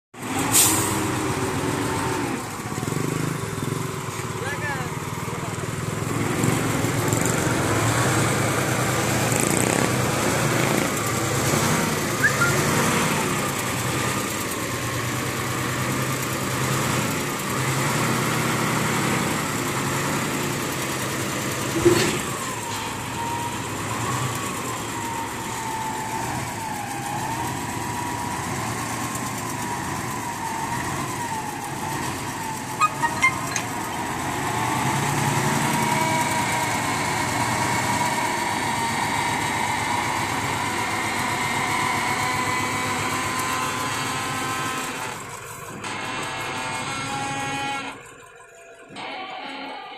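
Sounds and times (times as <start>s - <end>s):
truck engines running: 0.2s - 49.9s.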